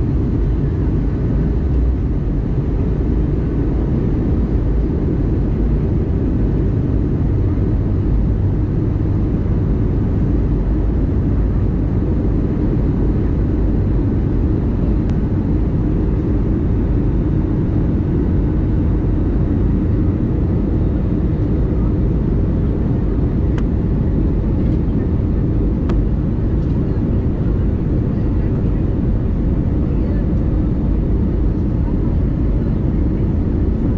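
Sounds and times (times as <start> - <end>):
aircraft cabin engine rumble: 0.0 - 33.9.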